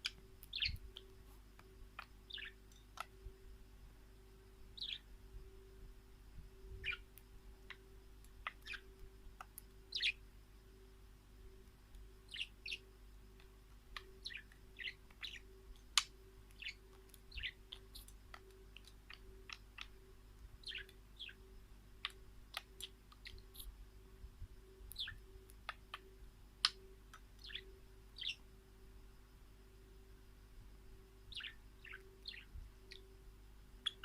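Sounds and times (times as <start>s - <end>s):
faint low hum: 0.0s - 34.0s
small birds chirping: 0.0s - 34.0s.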